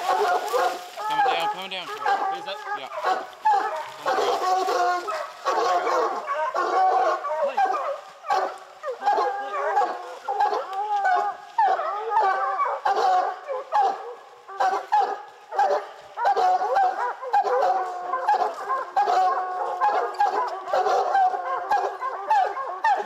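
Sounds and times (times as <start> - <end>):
hounds baying: 0.0 - 23.0.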